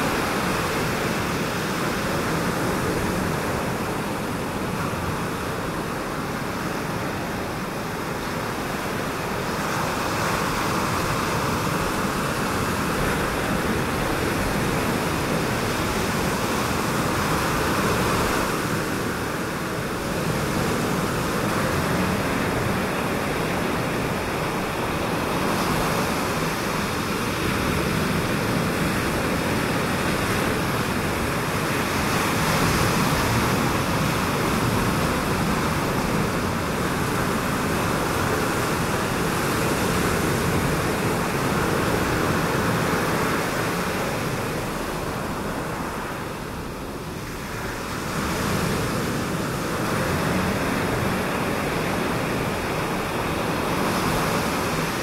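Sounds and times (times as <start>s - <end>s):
ocean waves washing: 0.0s - 55.0s.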